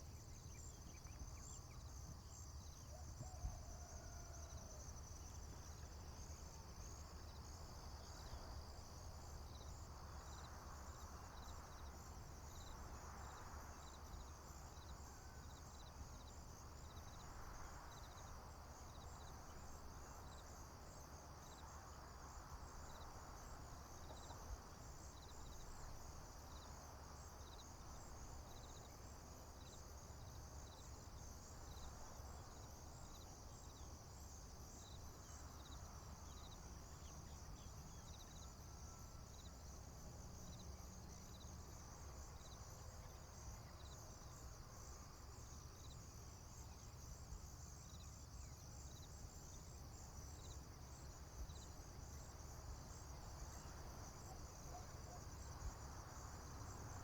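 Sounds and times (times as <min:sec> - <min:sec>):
insects trilling: 0:00.0 - 0:57.0
short insect chirp: 0:00.0 - 0:57.0.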